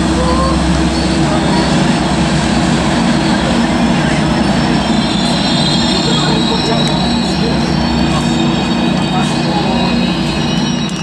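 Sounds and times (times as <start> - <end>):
diesel locomotives idling: 0.0 - 11.0.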